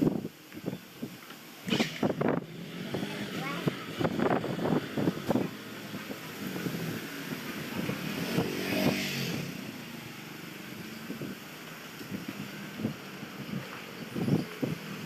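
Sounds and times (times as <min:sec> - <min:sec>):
outdoor background noise: 0:00.0 - 0:15.0
motorcycle passing: 0:01.6 - 0:15.0.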